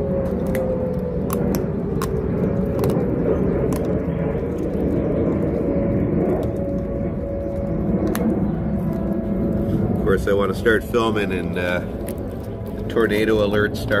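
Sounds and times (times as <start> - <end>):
heavy low rumble: 0.0 - 14.0
puppy chewing bone: 0.0 - 14.0
warning siren steady tone: 0.0 - 14.0.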